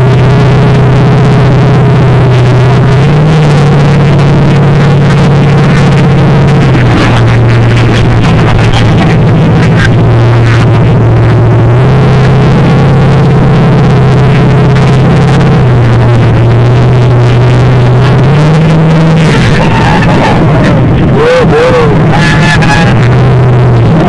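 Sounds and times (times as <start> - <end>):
monster truck engine droning: 0.0 - 24.0.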